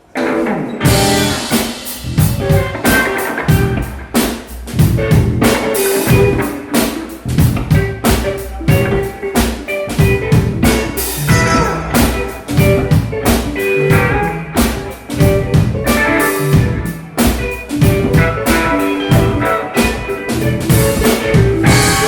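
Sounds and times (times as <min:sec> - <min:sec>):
guitar riff: 0:00.0 - 0:22.0
drum kit beat: 0:00.2 - 0:22.0.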